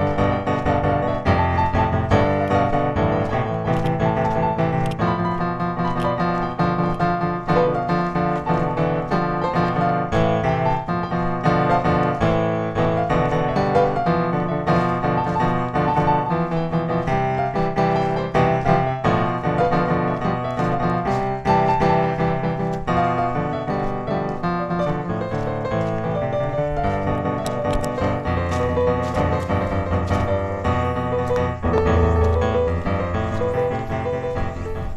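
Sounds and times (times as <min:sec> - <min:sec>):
flowing piano music: 0:00.0 - 0:34.9.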